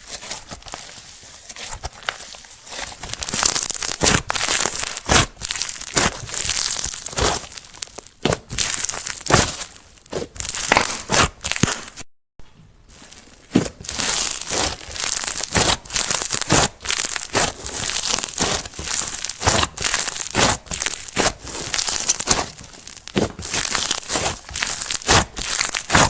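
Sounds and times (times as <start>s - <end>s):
slime crackling and squelching: 0.0s - 12.1s, 12.8s - 26.0s.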